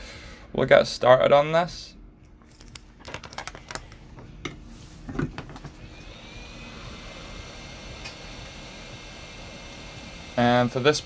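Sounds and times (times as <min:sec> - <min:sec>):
hot-air station fan hissing: 0:00.0 - 0:02.1, 0:02.7 - 0:11.0.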